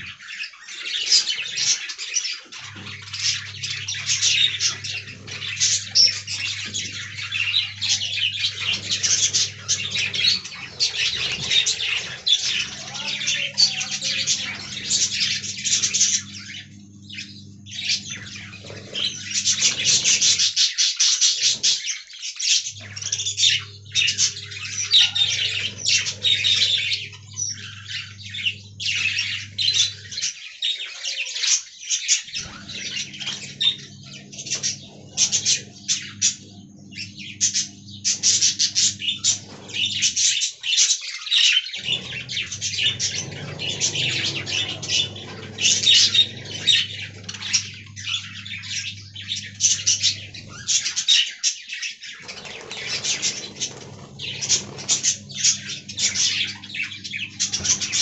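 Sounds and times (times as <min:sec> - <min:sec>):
budgerigars chattering: 0:00.0 - 0:58.0
steady low hum: 0:02.5 - 0:20.7, 0:22.6 - 0:30.3, 0:32.3 - 0:40.5, 0:41.7 - 0:51.2, 0:52.0 - 0:58.0.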